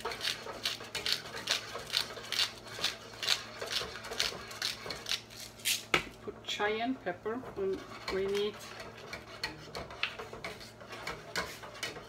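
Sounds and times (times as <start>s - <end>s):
utensil scraping a saucepan: 0.0s - 5.6s, 6.4s - 12.0s.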